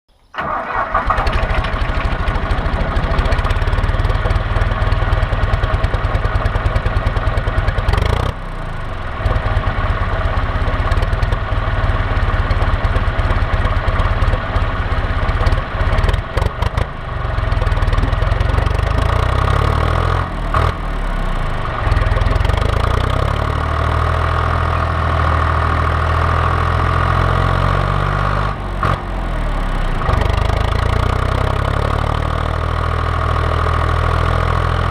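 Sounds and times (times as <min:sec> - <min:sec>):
tractor diesel engine running: 0:00.3 - 0:34.9.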